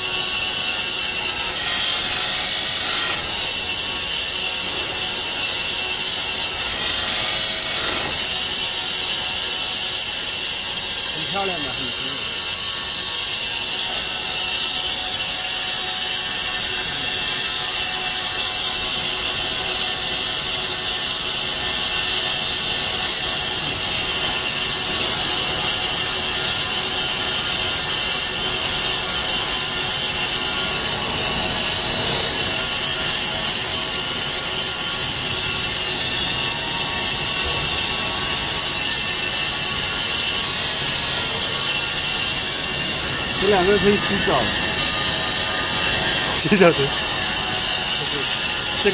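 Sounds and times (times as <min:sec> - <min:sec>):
foam-cutting machine hissing: 0:00.0 - 0:48.9.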